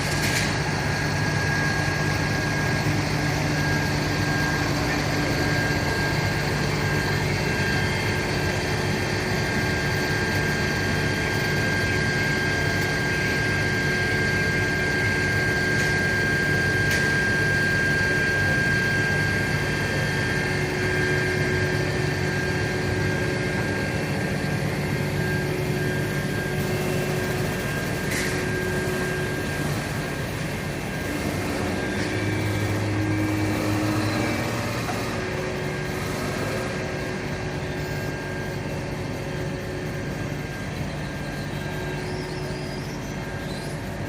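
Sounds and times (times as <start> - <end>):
fire truck engine running: 0.0 - 44.0.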